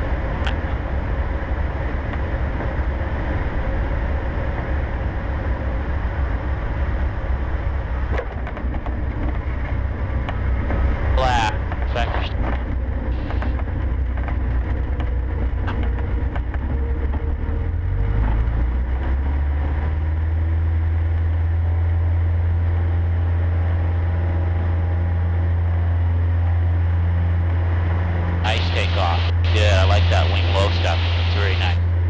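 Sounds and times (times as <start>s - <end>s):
light aircraft engine drone in cabin: 0.0s - 32.0s.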